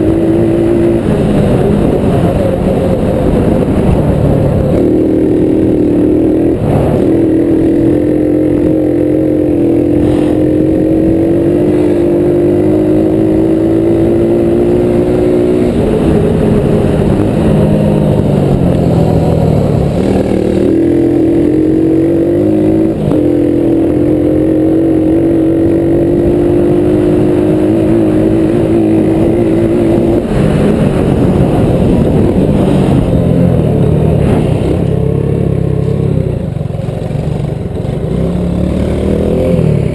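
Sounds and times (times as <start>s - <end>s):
off-road engine revving: 0.0s - 36.4s, 37.7s - 39.9s.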